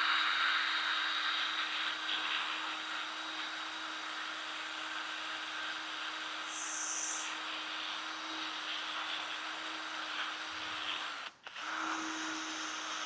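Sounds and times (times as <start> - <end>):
drill motor hum: 2.0 - 13.0.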